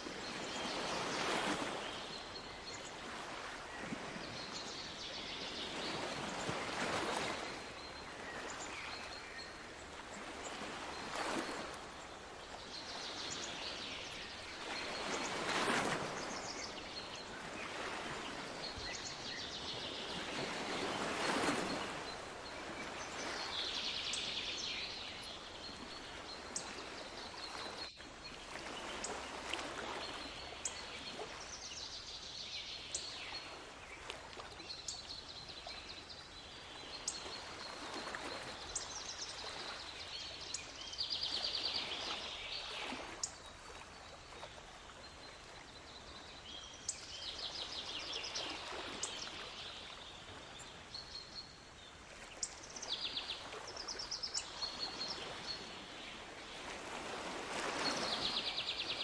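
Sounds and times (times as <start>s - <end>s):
sea waves washing ashore: 0.0s - 46.5s, 51.8s - 59.0s.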